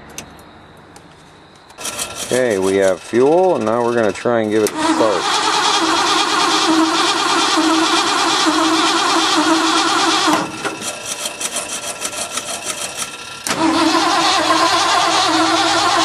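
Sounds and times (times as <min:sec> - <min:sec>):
engine cranking by starter: 0:01.8 - 0:16.0.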